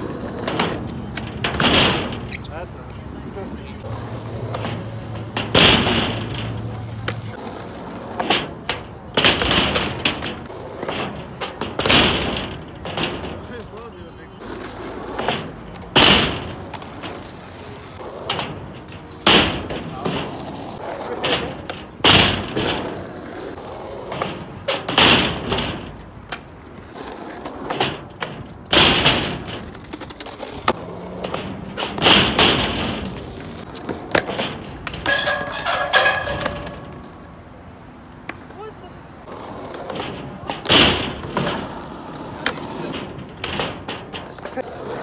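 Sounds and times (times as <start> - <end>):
skateboard wheels rolling on asphalt: 0.0 - 45.0.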